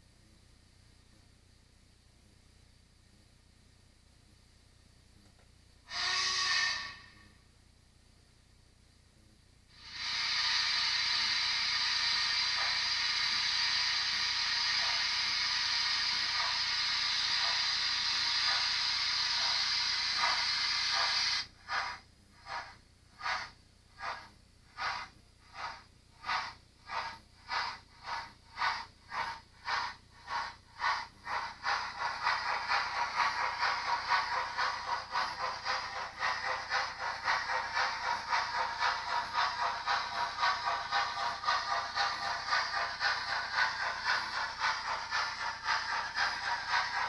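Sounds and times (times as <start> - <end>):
steam locomotive exhaust chuffs: 5.8 - 7.4, 9.7 - 47.0
hiss of steam: 5.9 - 7.3, 9.7 - 47.0.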